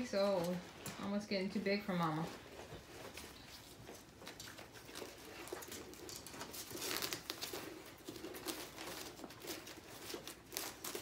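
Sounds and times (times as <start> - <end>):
puppies suckling: 2.0 - 11.0.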